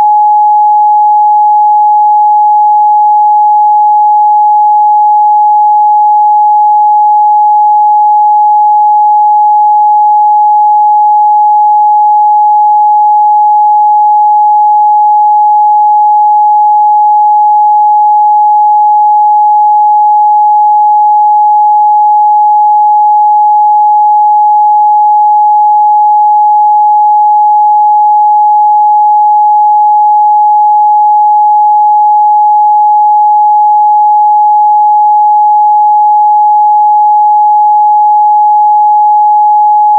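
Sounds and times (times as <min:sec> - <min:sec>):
loud sine wave test tone: 0:00.0 - 0:39.9.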